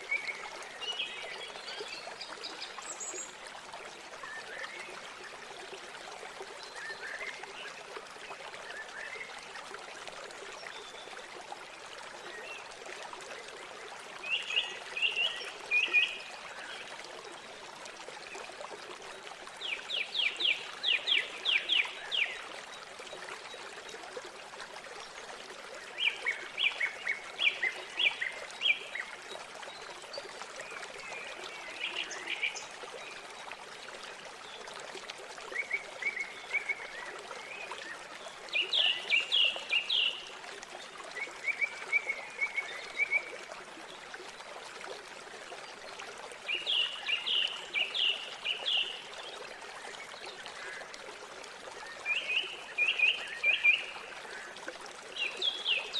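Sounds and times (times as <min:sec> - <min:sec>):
river water flowing: 0:00.0 - 0:55.9.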